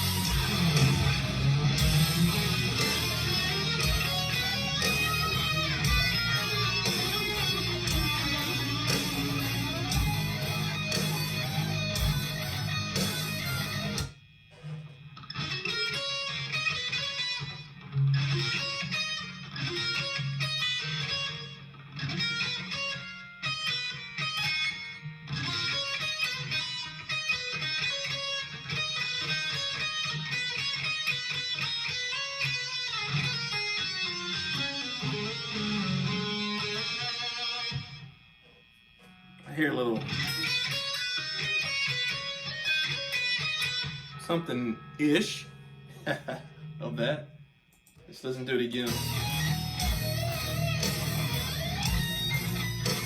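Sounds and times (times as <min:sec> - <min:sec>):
electric guitar solo: 0:00.0 - 0:47.5, 0:48.4 - 0:53.0.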